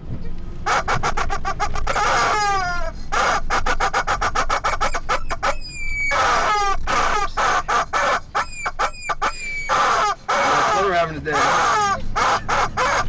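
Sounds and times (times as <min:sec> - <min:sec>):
rubber chicken squawks: 0:00.7 - 0:13.0
rubber chicken squeaks: 0:00.7 - 0:13.0.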